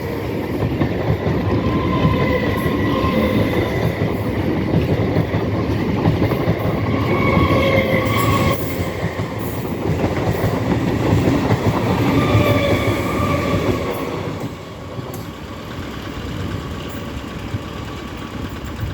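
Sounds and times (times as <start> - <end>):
train wheels clattering: 0.0 - 18.9.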